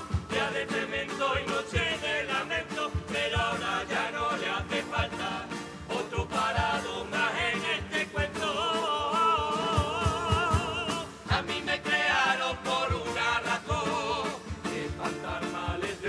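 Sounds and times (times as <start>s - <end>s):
choir singing in harmony: 0.0s - 16.0s
drum beat: 0.0s - 16.0s
guitar: 0.0s - 16.0s.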